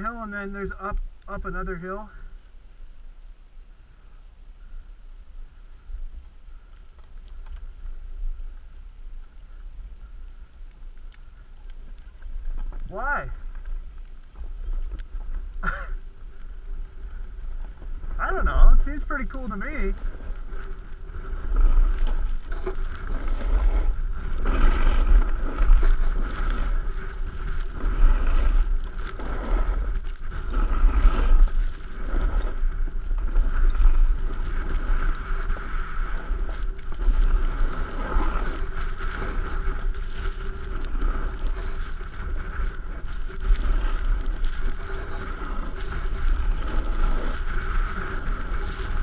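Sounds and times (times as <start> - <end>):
sliding over packed snow: 0.0 - 49.0.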